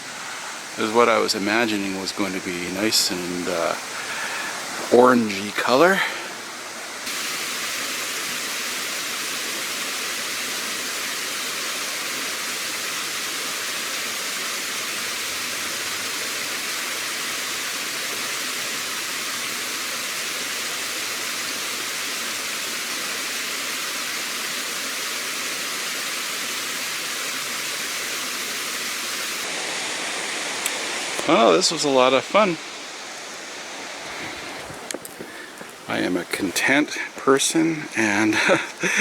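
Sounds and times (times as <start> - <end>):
running water rush: 0.0 - 39.0.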